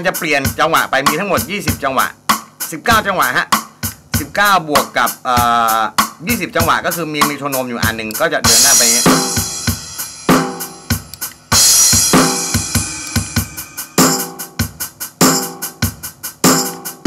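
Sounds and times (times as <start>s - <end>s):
drum machine patterns: 0.0s - 17.0s.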